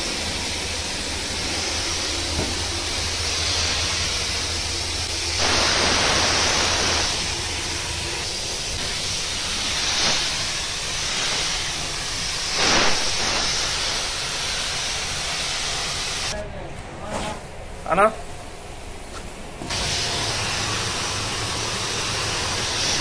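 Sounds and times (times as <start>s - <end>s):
paint spray gun hissing: 0.0s - 16.4s, 19.6s - 23.0s.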